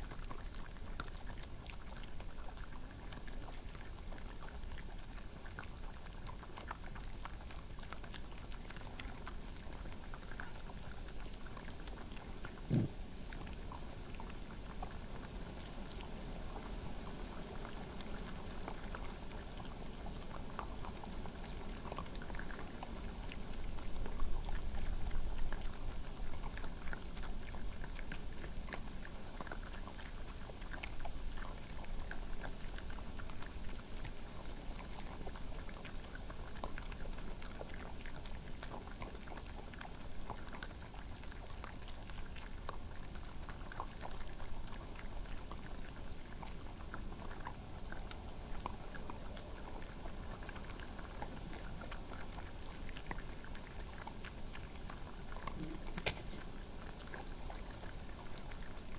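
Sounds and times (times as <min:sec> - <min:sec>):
animals chewing peanuts: 0:00.0 - 0:58.9.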